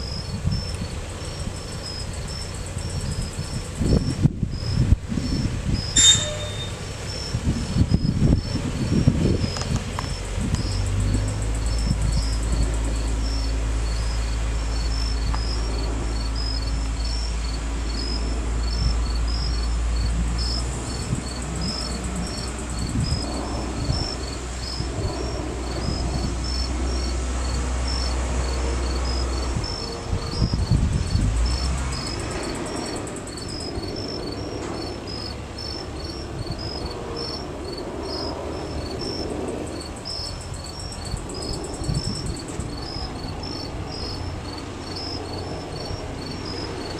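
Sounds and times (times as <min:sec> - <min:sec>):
crane engine hum: 0:00.0 - 0:46.9
crickets chirping: 0:00.0 - 0:46.9.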